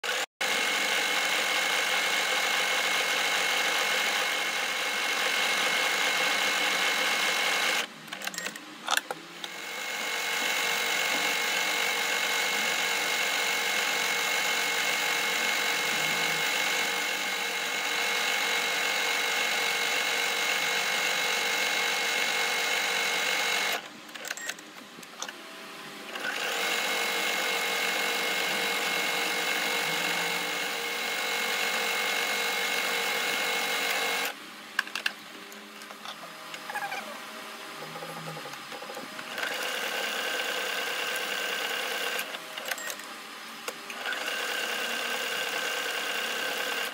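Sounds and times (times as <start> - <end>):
sewing machine stitching: 0.0 - 24.6, 26.1 - 34.4, 37.9 - 42.9, 43.9 - 46.9.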